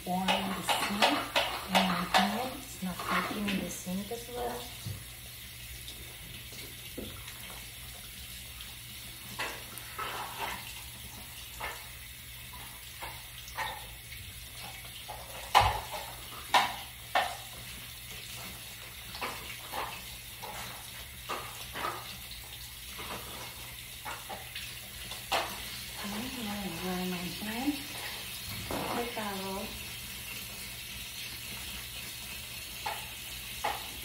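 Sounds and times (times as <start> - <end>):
faucet running into sink: 0.0 - 34.0.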